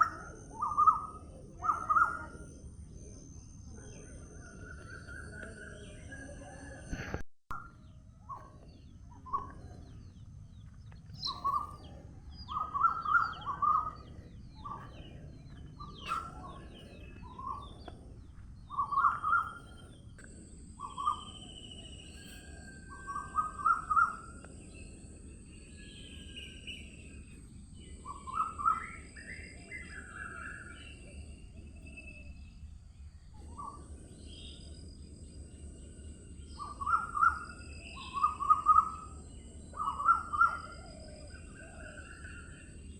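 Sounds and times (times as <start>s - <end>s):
thin steady high tone: 0.0s - 7.0s, 7.7s - 42.9s
birds chirping: 0.0s - 7.2s, 7.8s - 42.9s.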